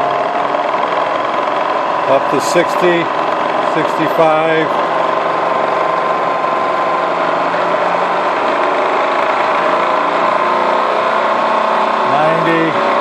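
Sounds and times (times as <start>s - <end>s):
milling machine whirring: 0.0s - 13.0s.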